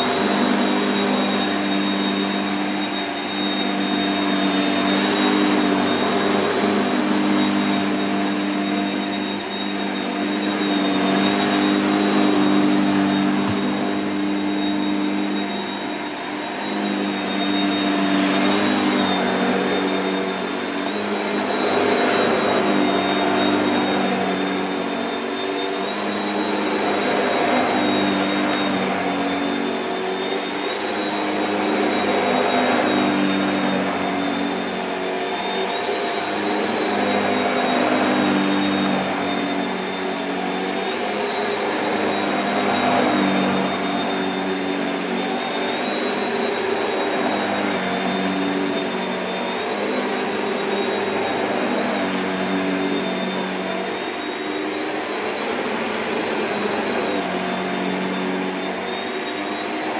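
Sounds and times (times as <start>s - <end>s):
vacuum cleaner running on carpet: 0.0s - 59.9s.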